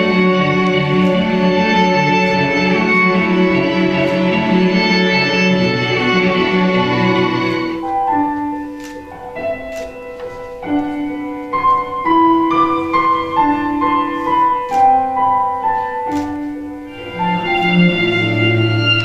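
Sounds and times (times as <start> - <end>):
slow keyboard melody: 0.0 - 19.0.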